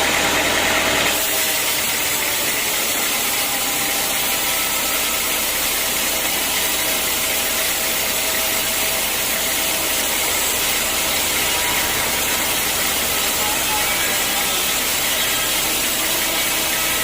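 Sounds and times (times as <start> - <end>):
sawmill machinery hissing: 0.0 - 17.0.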